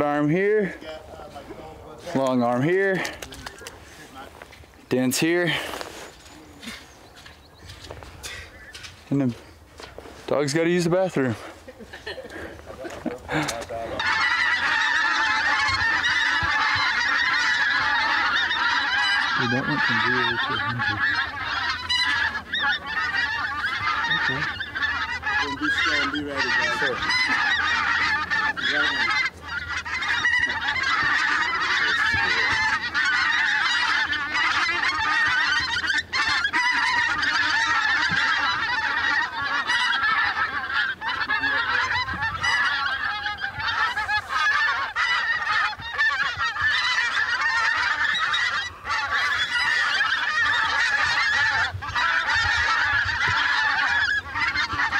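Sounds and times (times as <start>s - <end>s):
flock of geese calling: 0.0s - 54.9s.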